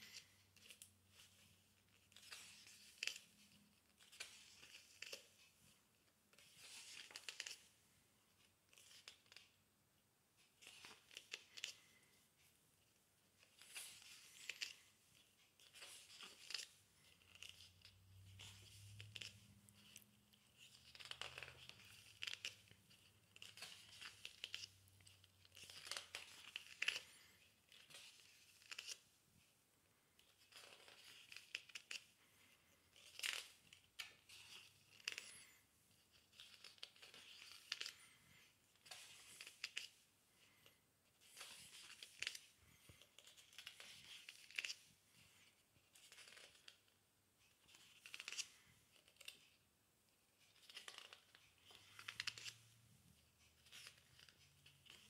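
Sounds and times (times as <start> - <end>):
book pages turning: 0.0 - 9.6, 10.4 - 12.2, 13.4 - 29.2, 30.0 - 49.6, 50.2 - 55.0.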